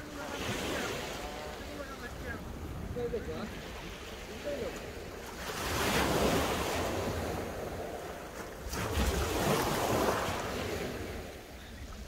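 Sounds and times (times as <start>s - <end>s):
waves washing up shingle beach: 0.0s - 12.0s
wind rumbling on microphone: 0.0s - 12.0s.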